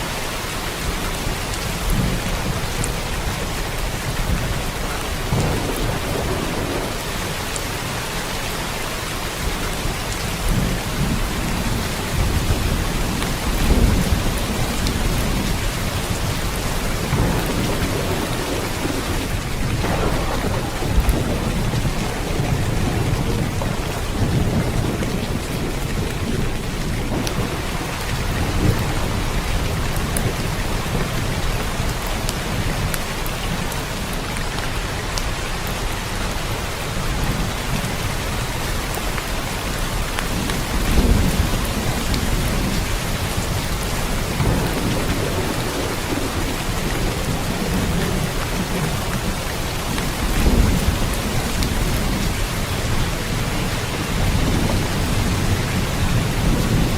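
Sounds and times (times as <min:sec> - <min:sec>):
steady rain falling: 0:00.0 - 0:56.9
thunder rumbling: 0:00.4 - 0:34.0, 0:36.9 - 0:56.9.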